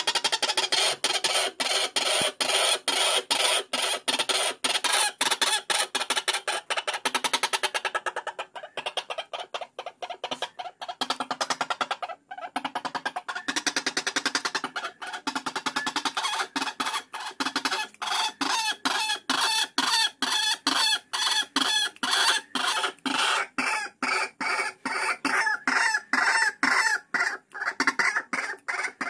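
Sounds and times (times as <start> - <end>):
waterhen calls: 0.0 - 29.0.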